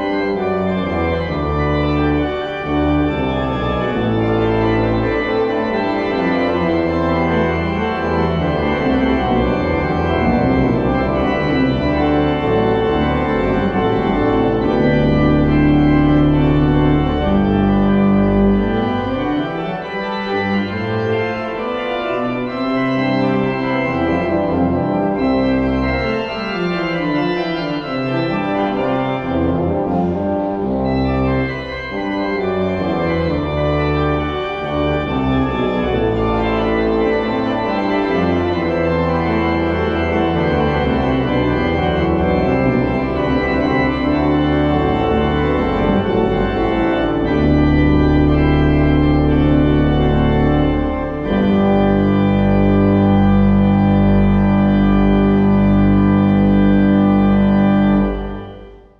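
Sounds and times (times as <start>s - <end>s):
church organ playing chords: 0.0s - 58.9s.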